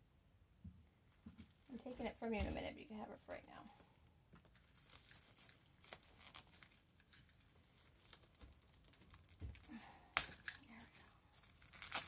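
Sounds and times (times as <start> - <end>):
bubble wrap crinkling: 1.0 - 12.0.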